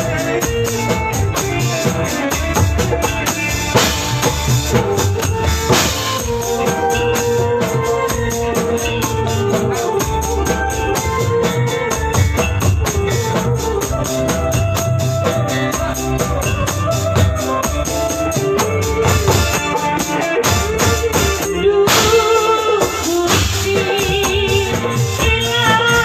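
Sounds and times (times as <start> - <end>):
music with drums and bass: 0.0 - 26.0.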